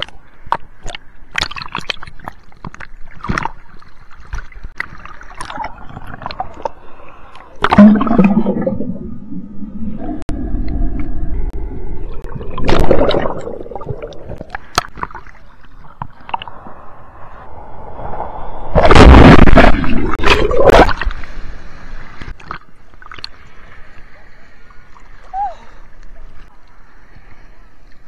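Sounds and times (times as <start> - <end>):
seawater gurgling and sloshing: 0.0 - 16.8, 18.8 - 28.0.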